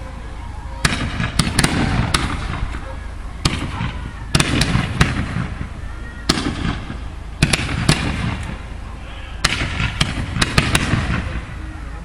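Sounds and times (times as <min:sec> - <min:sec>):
fireworks bursting with rumble: 0:00.7 - 0:12.0.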